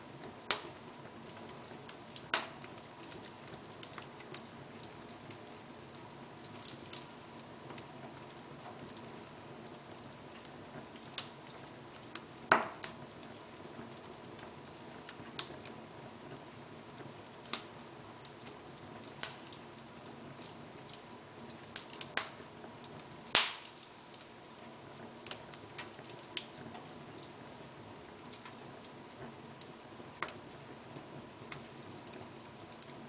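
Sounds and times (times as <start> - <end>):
fire crackling and popping: 0.0 - 33.0
fire hissing: 0.2 - 32.8.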